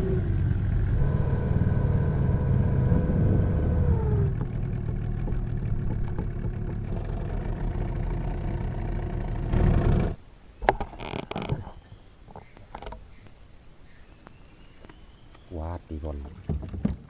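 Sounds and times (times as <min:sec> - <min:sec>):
motor engine rumbling: 0:00.0 - 0:17.0.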